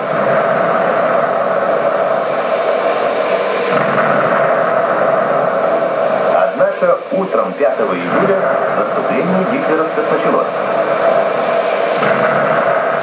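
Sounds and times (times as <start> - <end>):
film projector whirring: 0.0 - 13.0
film soundtrack through speaker: 0.0 - 13.0.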